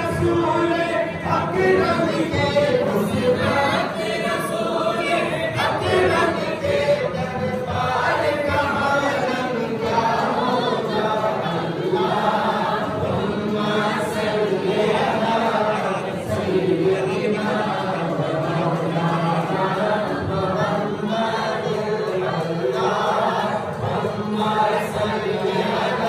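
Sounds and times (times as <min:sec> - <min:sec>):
men chanting together: 0:00.0 - 0:26.0.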